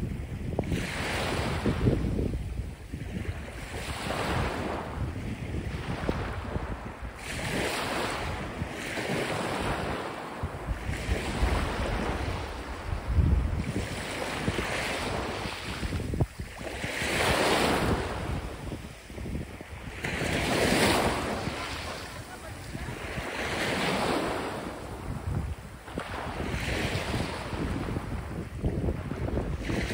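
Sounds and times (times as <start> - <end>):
small waves breaking on sand: 0.0 - 29.9
wind buffeting microphone: 0.0 - 29.9.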